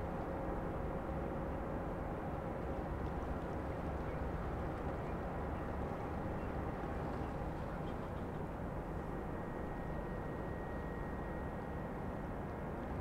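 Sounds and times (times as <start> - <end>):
faint hum: 0.0 - 13.0
low rumble of ship engines: 0.0 - 13.0.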